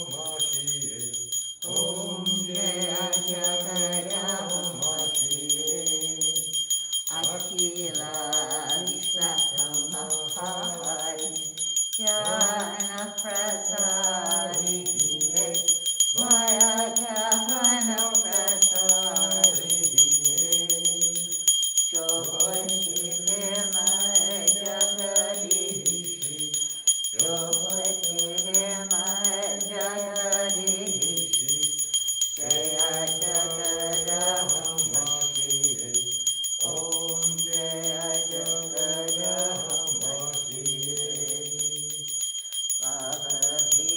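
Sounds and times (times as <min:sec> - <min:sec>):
small bell ringing: 0:00.0 - 0:43.9
voices singing a hymn: 0:00.0 - 0:43.9.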